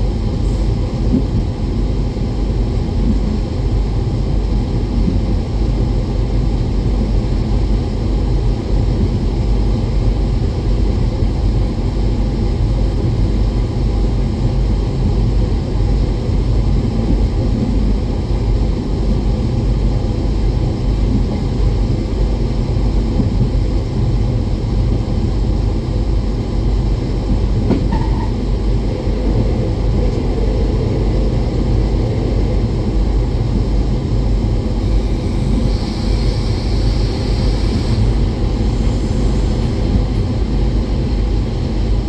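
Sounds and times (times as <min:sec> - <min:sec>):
diesel train rumbling: 0:00.0 - 0:42.0.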